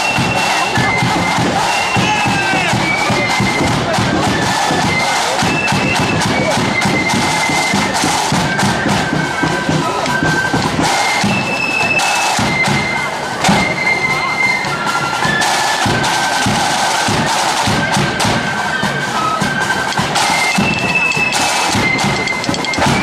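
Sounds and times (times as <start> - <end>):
side drums and bass drum: 0.0 - 13.8, 15.5 - 23.0
shrill flutes: 0.0 - 23.0.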